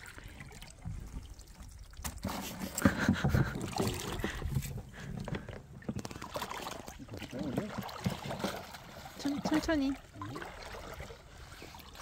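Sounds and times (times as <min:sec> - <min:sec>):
water sloshing with wading steps: 0:00.0 - 0:12.0.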